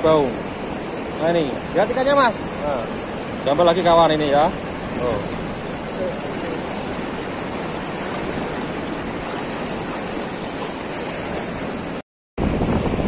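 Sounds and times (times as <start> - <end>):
water rushing through weir: 0.0 - 13.0.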